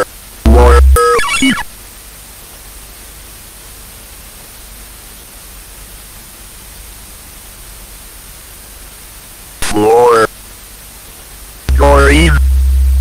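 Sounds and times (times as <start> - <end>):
television static hiss: 0.0 - 13.0.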